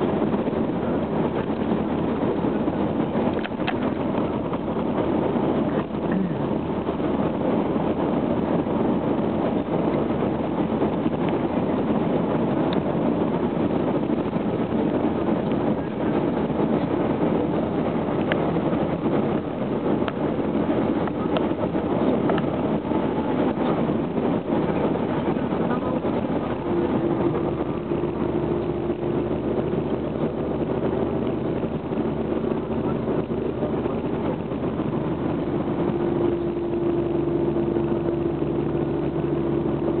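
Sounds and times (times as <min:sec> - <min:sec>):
low steady hum: 0:00.0 - 0:40.0
road and engine noise: 0:00.0 - 0:40.0.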